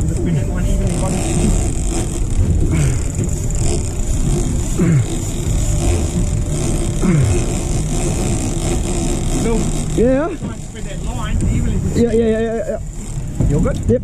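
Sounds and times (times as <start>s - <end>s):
boat engine running: 0.0s - 14.0s
water noise: 0.0s - 14.0s
wind: 0.0s - 14.0s.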